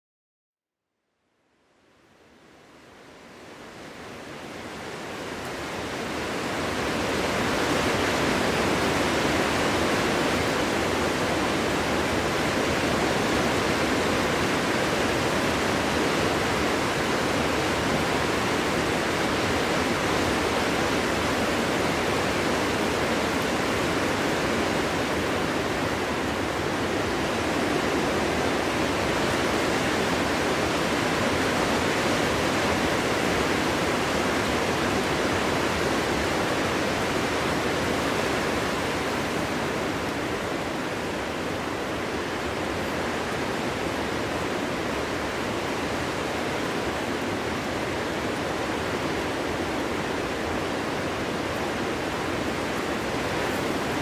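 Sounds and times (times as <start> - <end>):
wind blowing through forest: 0.9 - 54.0.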